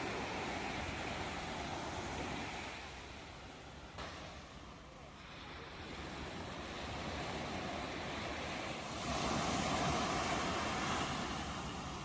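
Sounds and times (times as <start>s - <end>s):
ocean waves breaking on shore: 0.0s - 12.0s.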